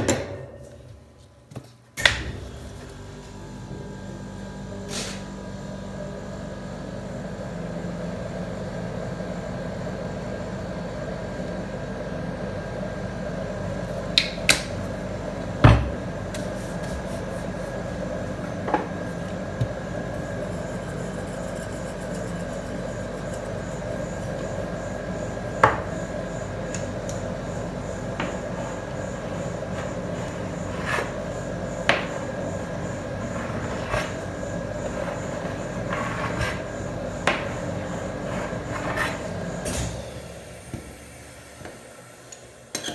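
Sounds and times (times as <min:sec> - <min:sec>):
ice cream machine humming: 0:02.0 - 0:42.9.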